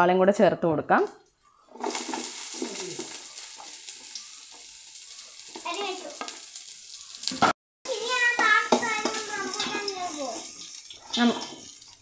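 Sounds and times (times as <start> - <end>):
onions sizzling in pan: 1.7 - 12.0.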